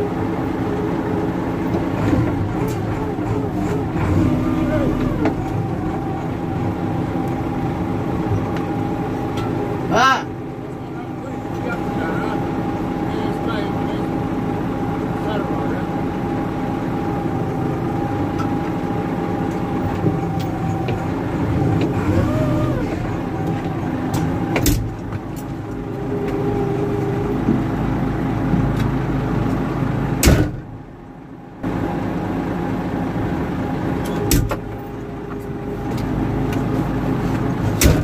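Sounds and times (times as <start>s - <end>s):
forklift engine idling: 0.0s - 38.0s.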